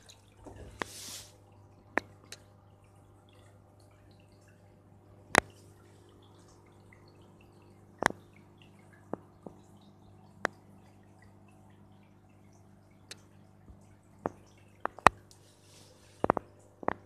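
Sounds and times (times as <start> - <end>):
aquarium equipment humming: 0.0 - 17.0
bubbly dripping water: 0.0 - 17.0.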